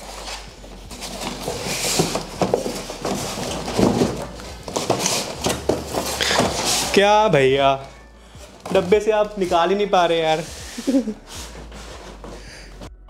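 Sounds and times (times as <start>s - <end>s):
cardboard box rustling and scraping: 0.0s - 12.9s.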